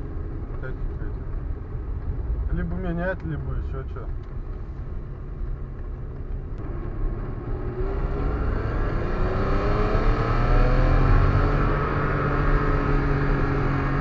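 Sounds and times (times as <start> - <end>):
car engine accelerating: 0.0 - 14.0
road noise rumble: 0.0 - 14.0.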